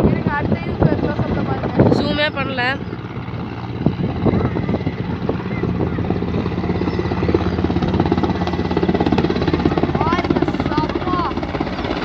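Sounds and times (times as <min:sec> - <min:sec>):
helicopter rotor beating: 0:00.0 - 0:12.0
engine hum: 0:00.1 - 0:12.0.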